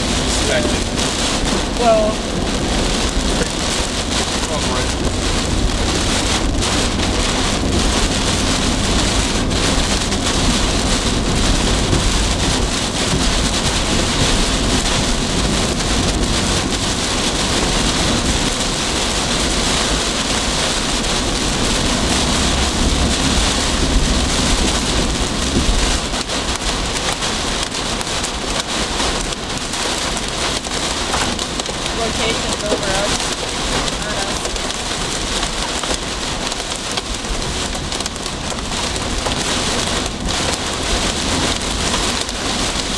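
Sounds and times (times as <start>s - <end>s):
deep rumble: 0.0s - 42.9s
heavy rain striking a vehicle: 0.0s - 42.9s.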